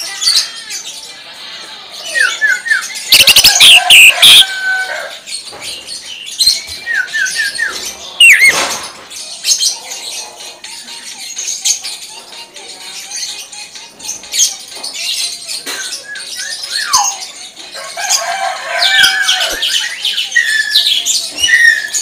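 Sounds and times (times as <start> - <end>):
sharp bird calls: 2.1 - 11.9, 14.2 - 22.0.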